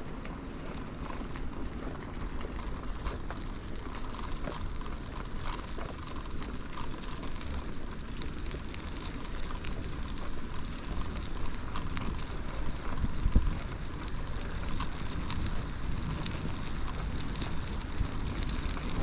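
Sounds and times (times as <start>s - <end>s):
bicycle tyres rumbling: 0.0s - 19.0s
small clicks and rattles: 0.0s - 19.0s.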